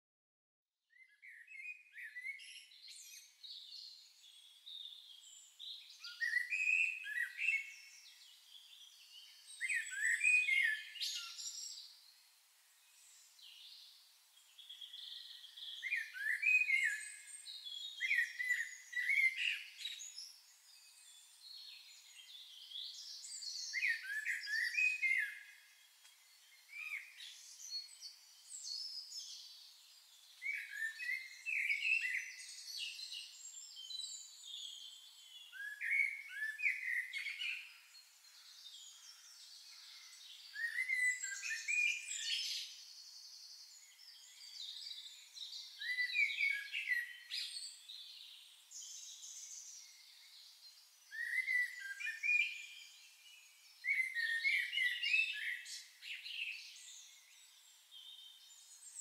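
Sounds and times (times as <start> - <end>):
songbirds twittering: 0.9 - 59.0.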